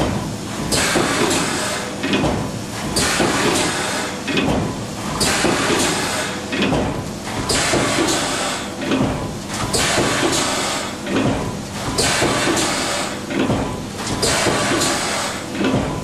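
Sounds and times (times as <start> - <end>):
machine hisses and clunks: 0.1 - 16.0.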